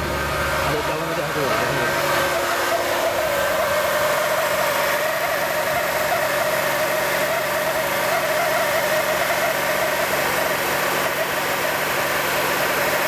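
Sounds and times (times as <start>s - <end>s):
car engine running: 0.0s - 13.0s
wavering warbling hum: 0.0s - 13.0s.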